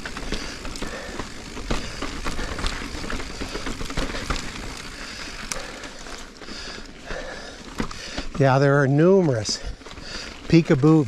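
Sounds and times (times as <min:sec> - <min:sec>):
bike clicks and knocks: 0:00.0 - 0:11.0
bike tyres rolling on dirt: 0:00.0 - 0:11.0.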